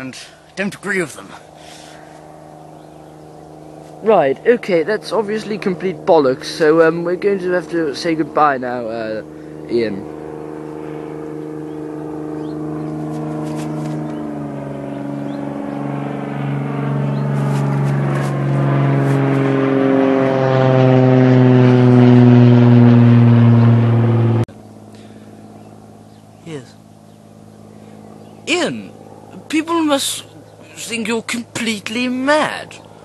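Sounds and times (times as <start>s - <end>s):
motor-like drone: 0.0s - 33.0s.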